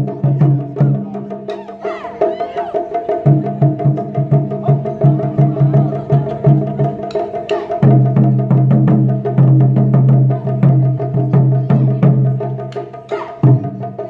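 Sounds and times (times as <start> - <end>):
ensemble drumming on barrel drums: 0.0 - 14.0.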